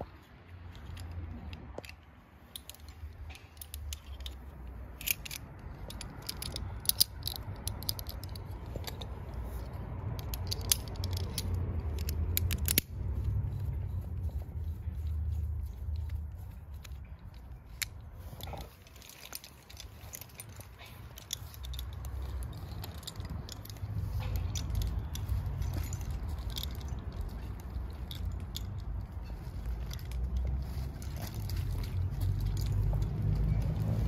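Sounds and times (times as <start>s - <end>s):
carabiners clicking: 0.0s - 34.0s.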